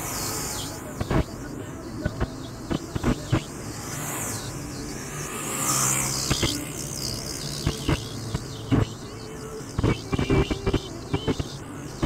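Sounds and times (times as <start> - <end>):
car road noise and tyre hiss: 0.0 - 12.0.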